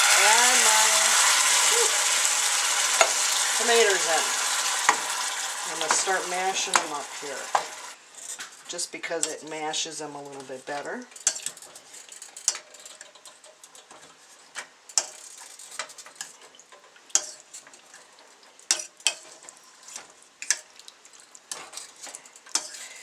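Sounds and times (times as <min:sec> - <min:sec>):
faint sizzle: 0:00.0 - 0:23.0.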